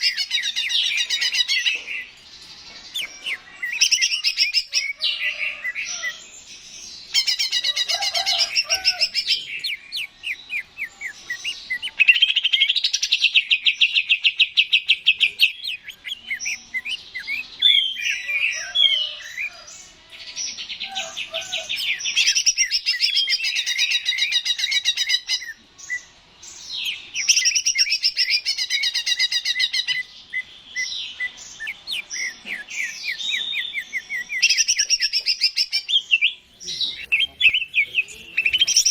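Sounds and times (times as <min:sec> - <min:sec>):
bird singing trilled phrases: 0:00.0 - 0:38.9.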